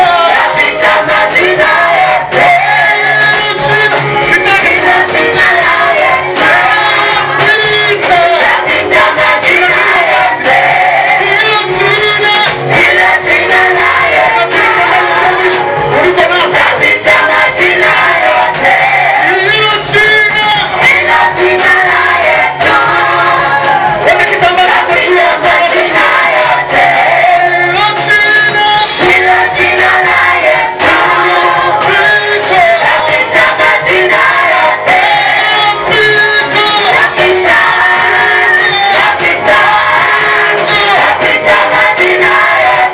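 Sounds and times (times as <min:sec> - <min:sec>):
group singing worship song: 0:00.0 - 0:42.9
instrumental accompaniment with beat: 0:00.0 - 0:42.9.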